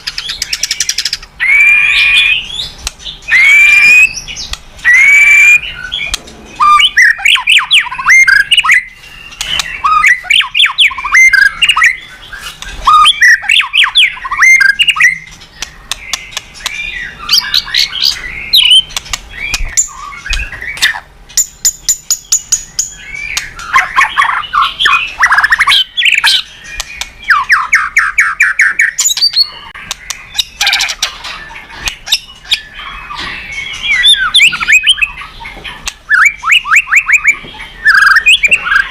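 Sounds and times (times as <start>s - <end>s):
bird singing whistled phrases: 0.1s - 31.0s, 32.0s - 35.4s, 36.1s - 38.9s.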